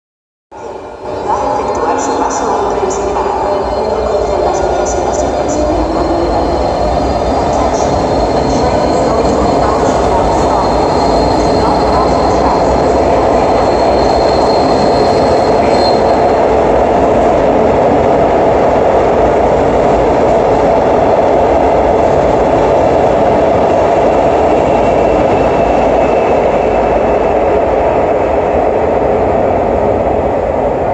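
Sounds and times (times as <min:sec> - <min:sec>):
train wheels rumbling on rail: 0:01.2 - 0:30.9.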